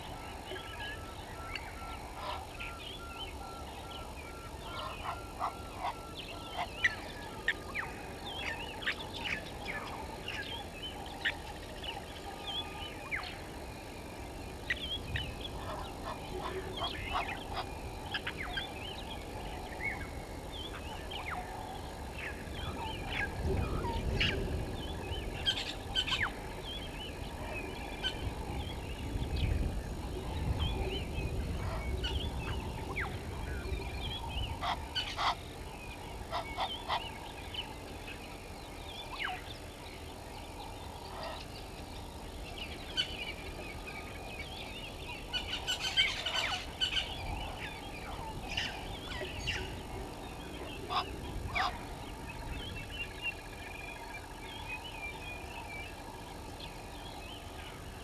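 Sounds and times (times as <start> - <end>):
guineafowl and birds calling: 0.0 - 58.0.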